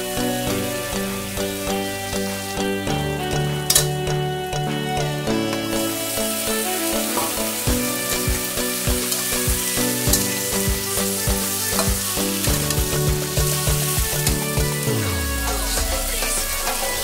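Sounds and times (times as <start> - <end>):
potatoes sizzling in hot oil: 0.0 - 17.0.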